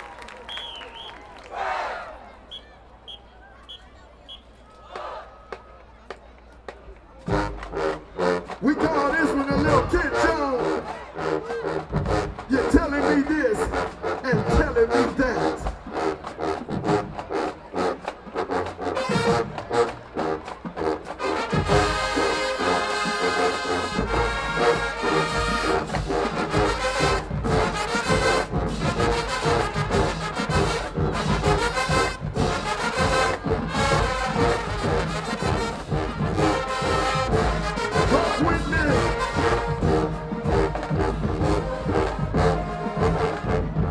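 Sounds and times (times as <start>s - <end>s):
marching band drums: 4.9s - 43.9s
low brass: 7.2s - 43.9s
brass section playing loud: 7.3s - 43.9s.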